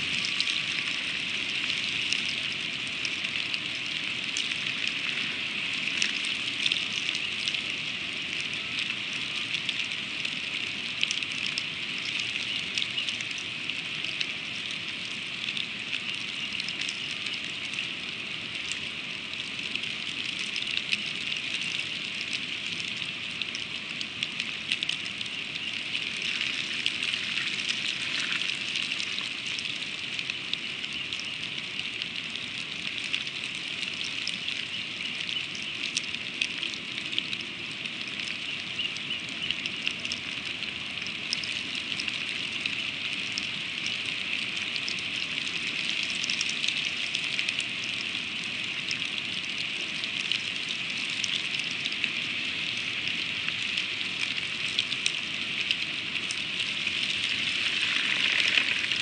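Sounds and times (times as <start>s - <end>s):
freezing rain pattering: 0.0s - 59.0s.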